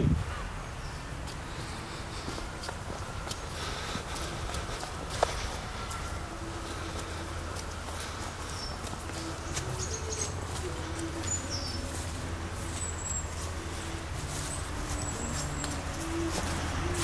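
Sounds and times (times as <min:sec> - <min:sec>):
birds chirping: 0:00.0 - 0:17.0
low outdoor hum: 0:00.0 - 0:17.0.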